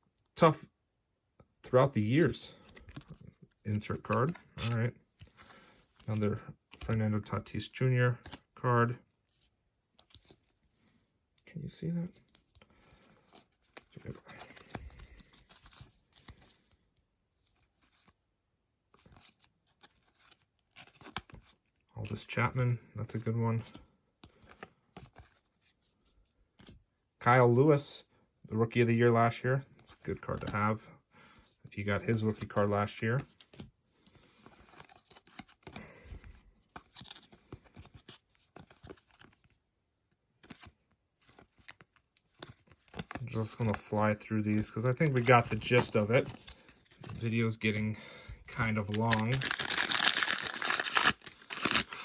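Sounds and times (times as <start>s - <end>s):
trading cards rustling and clicking: 1.7s - 8.6s, 9.4s - 10.6s, 12.0s - 18.2s, 18.9s - 26.8s, 29.7s - 30.8s, 31.9s - 52.0s.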